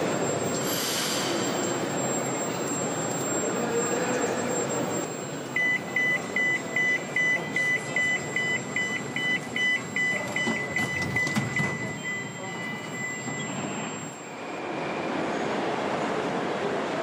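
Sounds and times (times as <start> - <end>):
electronic warning beeper: 0.0 - 15.4.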